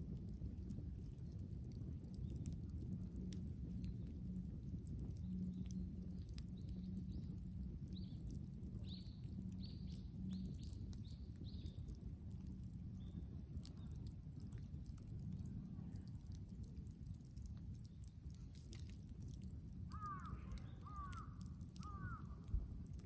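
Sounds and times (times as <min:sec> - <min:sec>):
bonfire crackling and snapping: 0:00.0 - 0:23.0.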